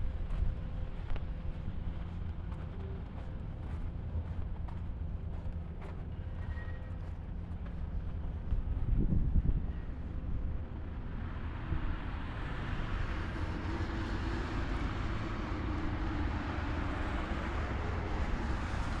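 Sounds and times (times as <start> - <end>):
passing vehicles and tyre noise: 0.0 - 19.0.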